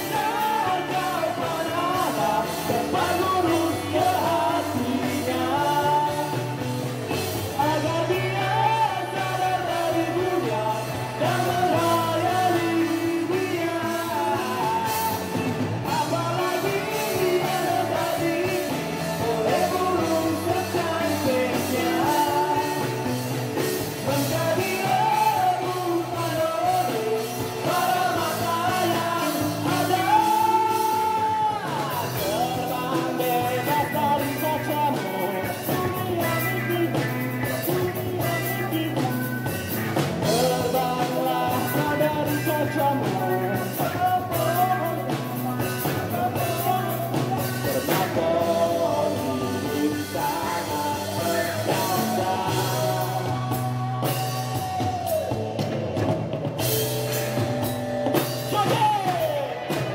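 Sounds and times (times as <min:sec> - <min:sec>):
person singing: 0:00.0 - 0:57.4, 0:58.2 - 0:59.9
drums: 0:00.0 - 0:59.9
electric guitar: 0:00.0 - 0:59.9
keyboard: 0:00.0 - 0:59.9.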